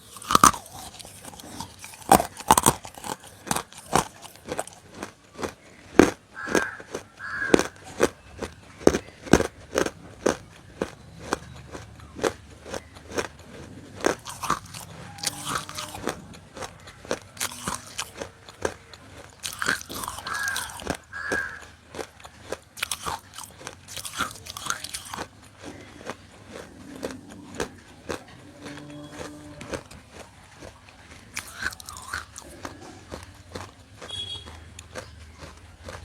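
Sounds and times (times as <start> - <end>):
crunchy snack being chewed: 0.0 - 36.0.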